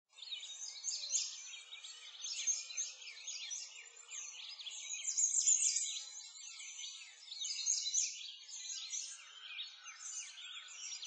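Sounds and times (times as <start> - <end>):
chorus of birds chirping: 0.1 - 11.0.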